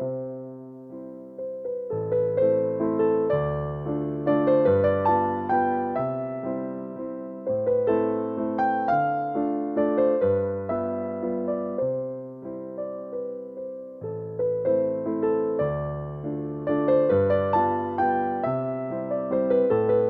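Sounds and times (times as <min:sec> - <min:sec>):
soft electric piano melody: 0:00.0 - 0:20.0.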